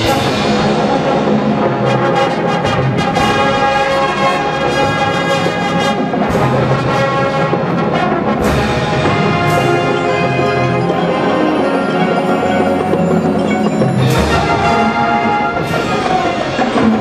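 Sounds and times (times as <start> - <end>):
brass chords: 0.0 - 17.0
drum and percussion strikes: 0.0 - 17.0.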